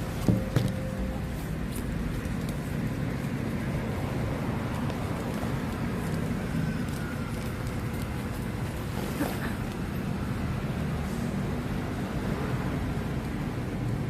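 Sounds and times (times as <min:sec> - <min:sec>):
road traffic rumble: 0:00.0 - 0:14.0
traffic hiss: 0:00.0 - 0:14.0.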